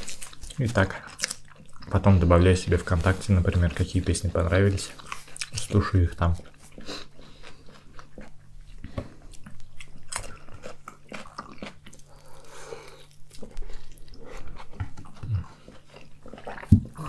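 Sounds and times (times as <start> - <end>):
crunchy chewing and biting: 0.0 - 17.0.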